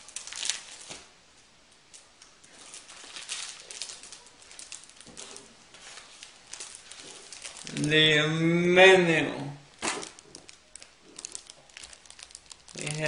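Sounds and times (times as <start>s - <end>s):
paper rustling and crinkling: 0.0s - 1.1s, 1.9s - 8.2s, 9.7s - 13.0s.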